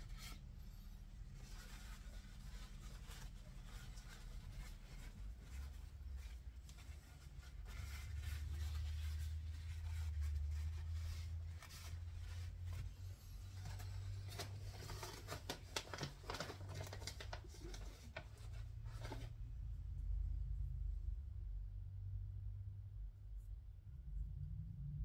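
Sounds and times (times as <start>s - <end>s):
steady low hum: 0.0s - 15.5s, 16.3s - 25.0s.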